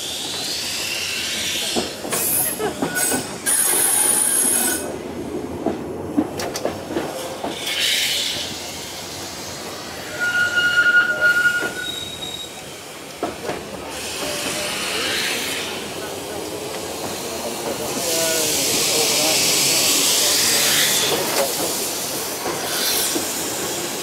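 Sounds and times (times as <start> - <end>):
tram wheels squealing: 0.0 - 4.9, 7.2 - 16.3, 17.8 - 24.0
tram wheels rumbling on rails: 0.0 - 24.0.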